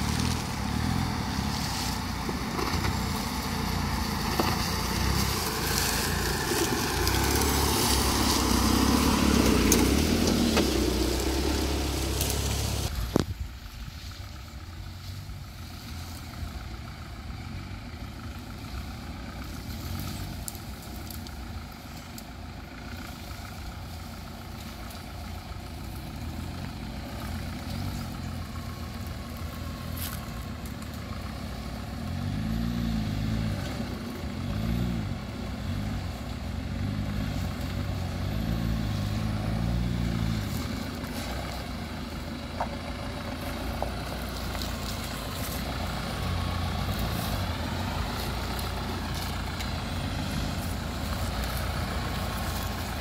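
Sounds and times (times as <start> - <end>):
diesel engine rumbling: 0.0 - 53.0.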